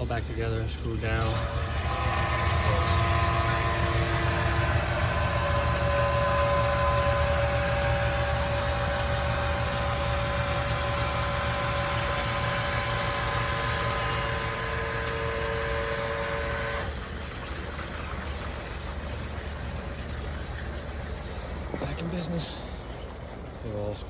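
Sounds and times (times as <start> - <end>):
electric pump motor humming: 0.0 - 24.0
pump motor whine: 0.0 - 24.0.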